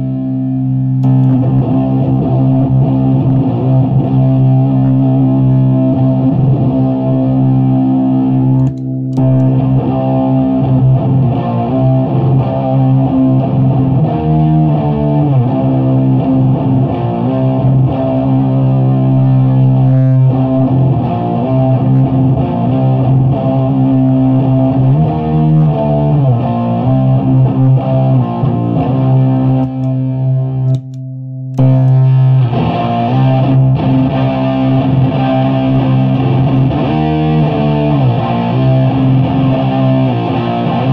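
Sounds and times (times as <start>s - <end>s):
distorted electric guitar chords: 0.0s - 40.9s.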